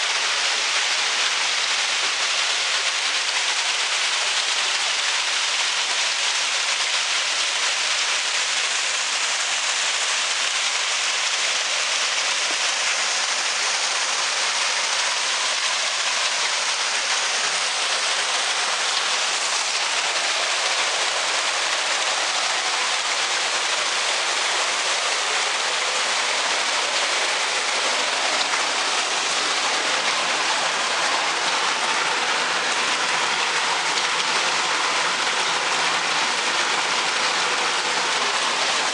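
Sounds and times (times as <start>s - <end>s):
water pouring and splashing: 0.0s - 38.9s.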